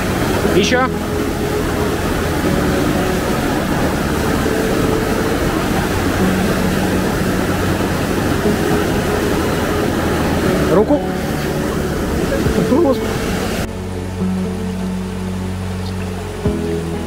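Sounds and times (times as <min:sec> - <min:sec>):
river and waterfall rushing: 0:00.0 - 0:17.0.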